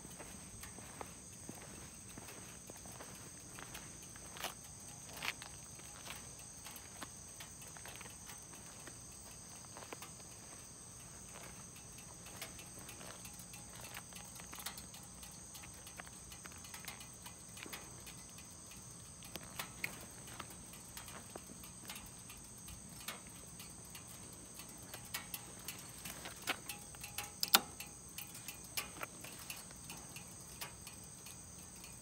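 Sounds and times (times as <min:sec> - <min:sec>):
faint clicks and ticks: 0:00.0 - 0:32.0
insects chirring: 0:00.0 - 0:32.0.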